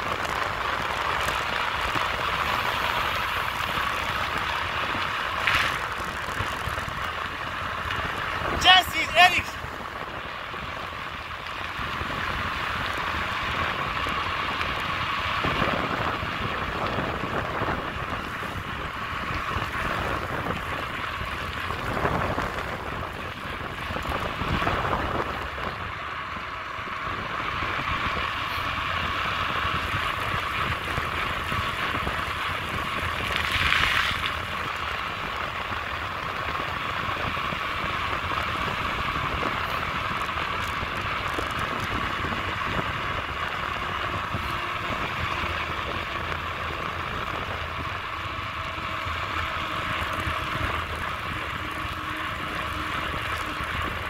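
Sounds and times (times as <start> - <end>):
tyres rolling on asphalt: 0.0 - 54.0
wind on microphone: 0.0 - 54.0.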